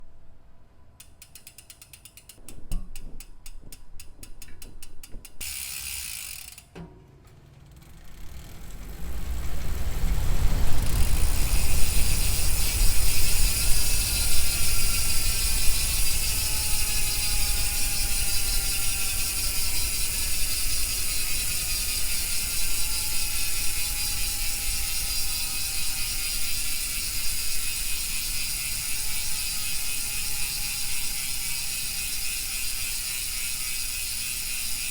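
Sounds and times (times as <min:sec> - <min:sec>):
bicycle freehub clicking: 0:01.0 - 0:06.8, 0:07.4 - 0:34.9.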